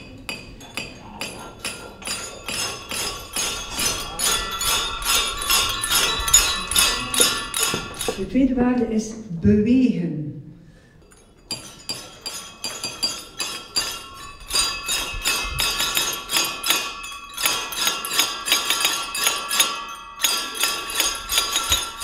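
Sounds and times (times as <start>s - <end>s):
wine glasses clinking: 0.0s - 8.3s, 11.0s - 22.0s.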